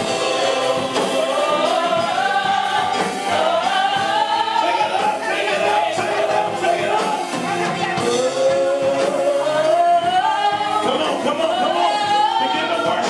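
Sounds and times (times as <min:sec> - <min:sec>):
gospel choir singing: 0:00.0 - 0:13.0.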